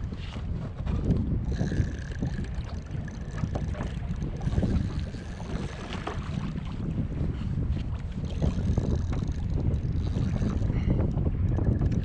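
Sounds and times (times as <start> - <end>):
water slapping kayak hull: 0.0 - 12.0
wind buffeting microphone: 0.0 - 12.0.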